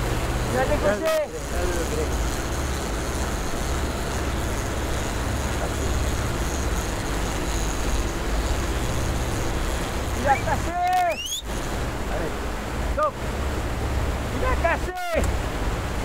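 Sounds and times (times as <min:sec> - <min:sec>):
boat engine humming: 0:00.0 - 0:16.0
water rushing in wake: 0:00.0 - 0:16.0
wind: 0:00.0 - 0:16.0.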